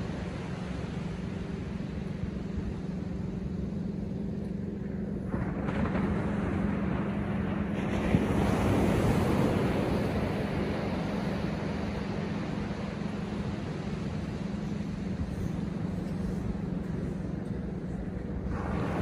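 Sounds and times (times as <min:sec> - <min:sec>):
low hum: 0:00.0 - 0:19.0
waves crashing on beach: 0:00.0 - 0:19.0.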